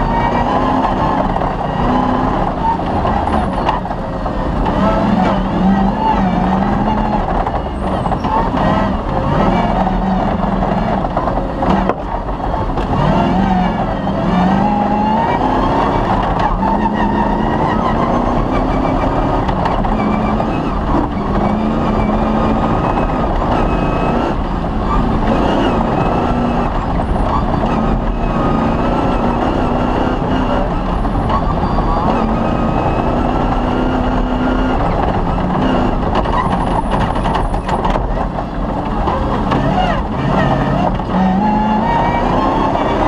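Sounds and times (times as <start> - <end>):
rally car engine revving: 0.0 - 43.0
rumble with track knocks: 0.0 - 43.0.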